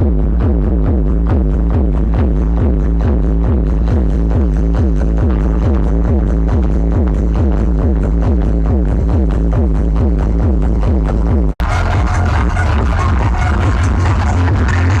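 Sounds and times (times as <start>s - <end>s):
electronic dance music with heavy bass: 0.0s - 15.0s.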